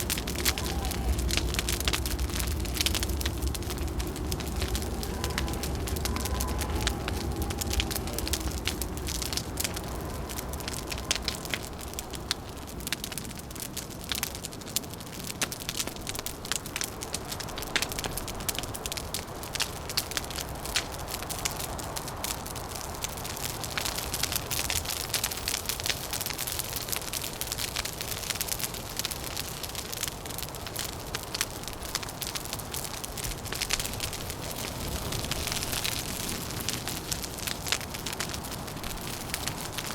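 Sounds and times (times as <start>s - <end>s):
low rumble of wind: 0.0s - 39.9s
wood fire crackling: 0.0s - 39.9s.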